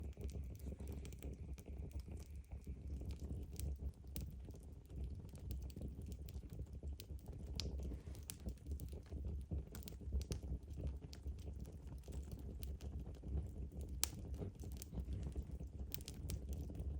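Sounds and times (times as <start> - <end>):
fire crackling and popping: 0.0 - 16.9
low fire rumble: 0.0 - 16.9.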